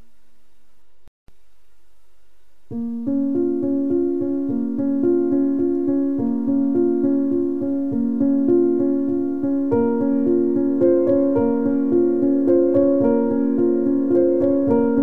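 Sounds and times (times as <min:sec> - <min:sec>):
faint steady hum: 0:00.0 - 0:15.0
piano-like keyboard music: 0:02.7 - 0:15.0.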